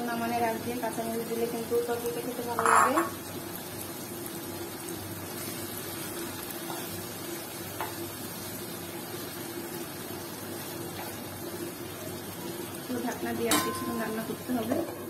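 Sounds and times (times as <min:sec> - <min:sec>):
curry simmering and sizzling: 0:00.0 - 0:15.0.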